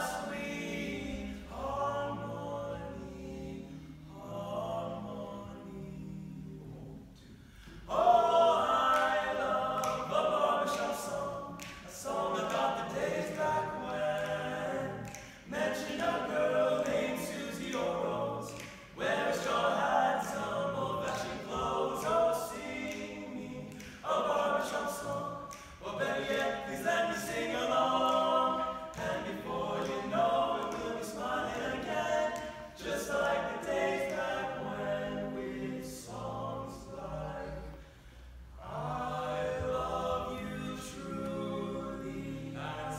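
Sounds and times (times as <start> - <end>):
male quartet singing a cappella: 0.0 - 42.9.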